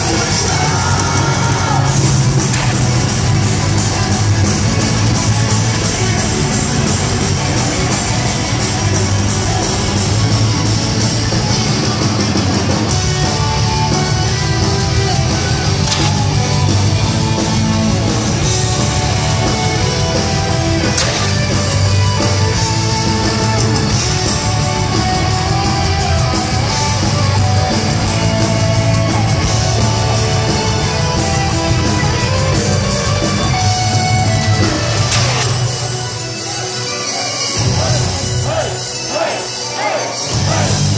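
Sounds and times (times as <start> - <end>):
rapid cymbal and drum hits: 0.0 - 36.6
bass guitar: 0.0 - 39.3, 40.2 - 40.9
distorted electric guitars: 0.0 - 40.9.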